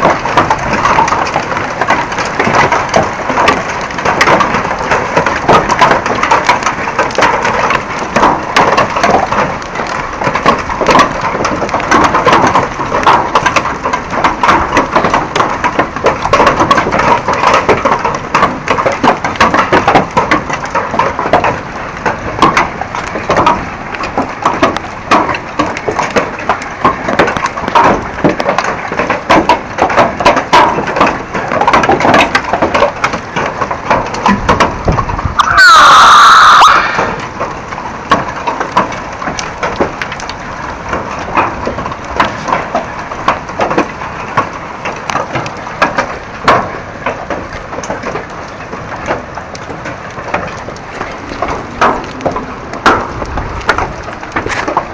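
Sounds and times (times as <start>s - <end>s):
hailstones clattering: 0.0s - 54.9s.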